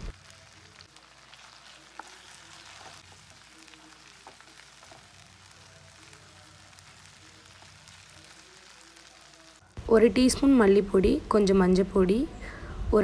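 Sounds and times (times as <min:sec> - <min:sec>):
vegetables sizzling in oil: 0:00.0 - 0:11.4.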